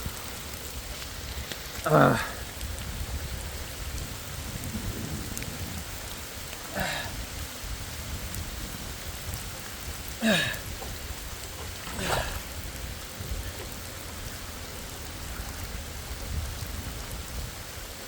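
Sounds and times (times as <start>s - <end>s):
heavy rain falling: 0.0s - 18.0s
swishing water splashes: 0.0s - 18.0s
wind rumble on microphone: 0.0s - 18.0s.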